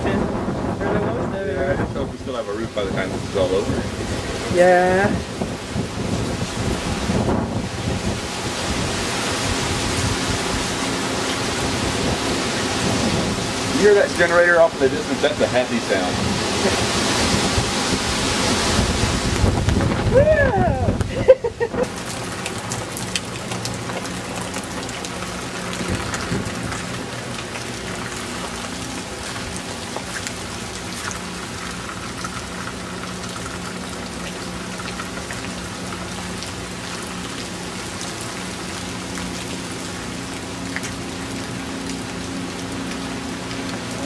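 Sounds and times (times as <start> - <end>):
rain pattering and dripping: 0.0 - 44.0.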